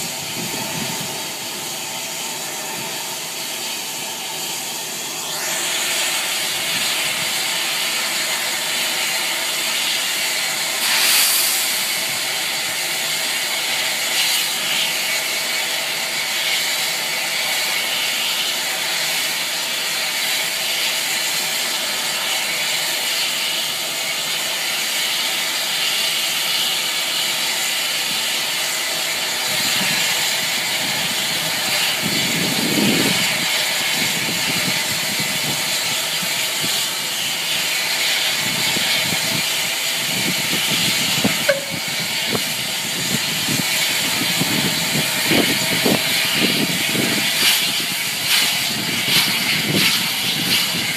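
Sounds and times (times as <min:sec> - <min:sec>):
gush of steam: 0:00.0 - 0:50.9
low rush of steam: 0:00.0 - 0:50.9
steam hissing: 0:00.0 - 0:50.9.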